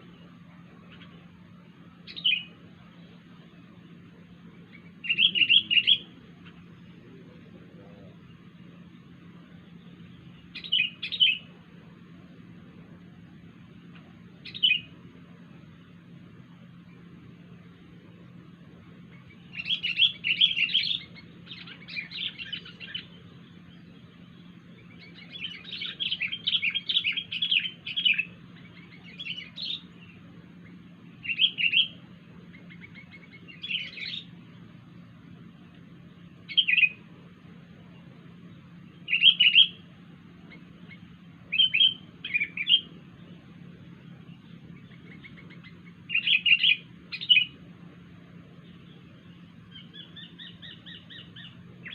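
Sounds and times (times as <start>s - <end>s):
bird chirping: 0.0s - 51.9s
faint low hum: 0.0s - 51.9s.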